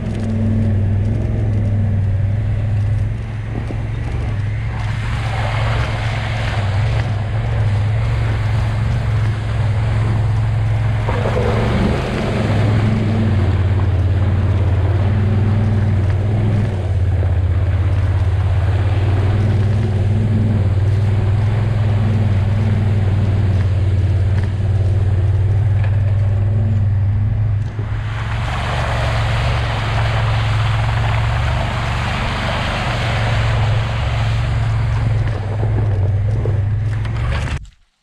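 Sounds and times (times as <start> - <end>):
tyres rushing through slush: 0.0 - 37.6
utility vehicle engine running: 0.0 - 37.9.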